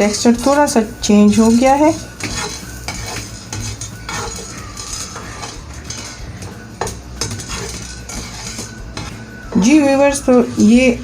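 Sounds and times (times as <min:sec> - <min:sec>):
metal spoon scraping in a pan: 0:00.0 - 0:11.0.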